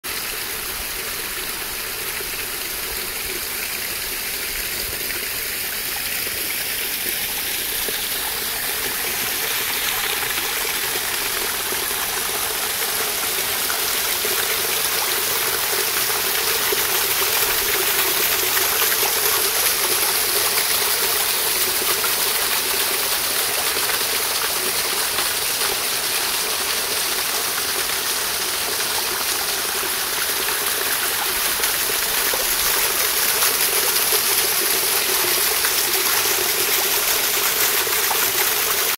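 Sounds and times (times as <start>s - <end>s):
creek water rushing over rocks: 0.0s - 38.9s.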